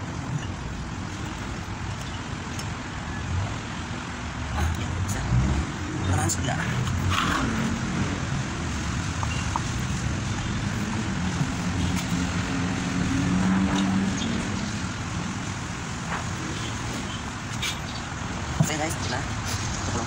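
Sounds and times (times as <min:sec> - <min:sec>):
traffic noise: 0:00.0 - 0:20.0
vehicle engine: 0:00.0 - 0:20.0.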